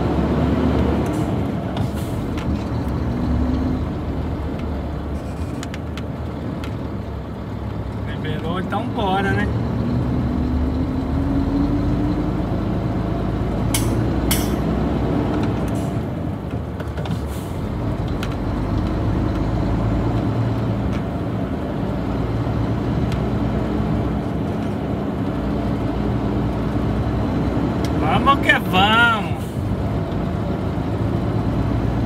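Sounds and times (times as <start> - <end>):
truck diesel engine: 0.0 - 32.0.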